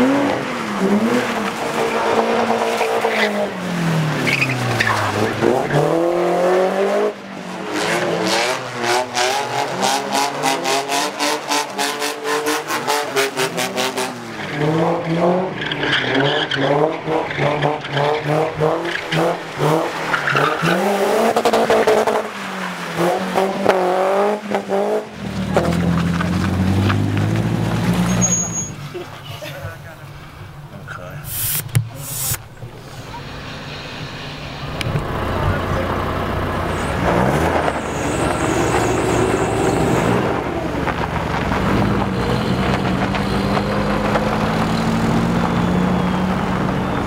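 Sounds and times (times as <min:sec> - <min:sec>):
car engine revving: 0:00.0 - 0:28.5, 0:29.5 - 0:47.0
tyres skidding on wet surface: 0:00.0 - 0:31.8, 0:32.4 - 0:47.0.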